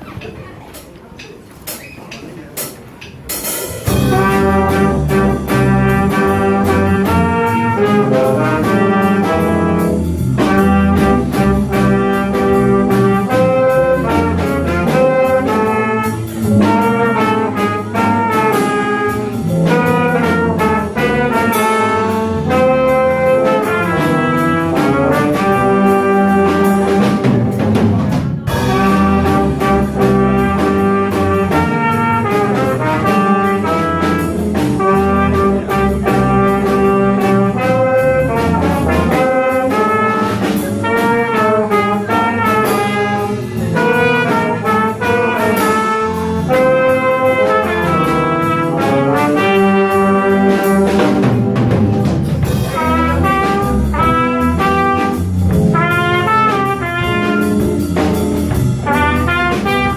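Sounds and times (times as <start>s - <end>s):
small jazz band playing: 0.0s - 59.9s.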